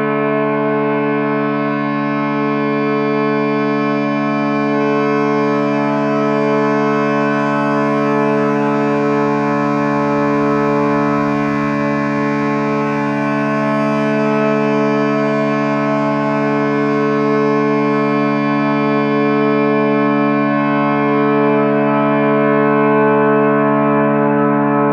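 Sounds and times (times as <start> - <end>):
ambient drone music: 0.0 - 24.9.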